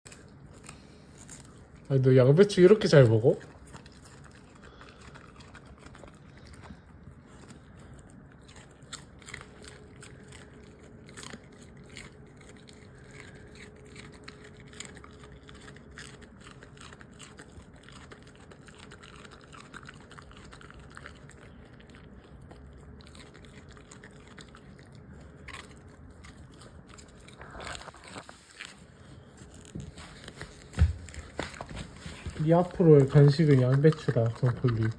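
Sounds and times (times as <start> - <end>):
dog chewing cabbage: 0.1 - 34.9
faint steady hum: 0.1 - 34.9.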